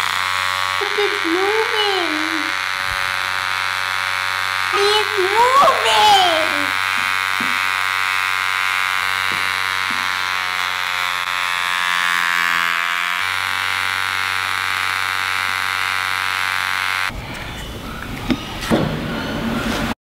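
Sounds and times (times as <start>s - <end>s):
small motor buzzing: 0.0s - 20.0s.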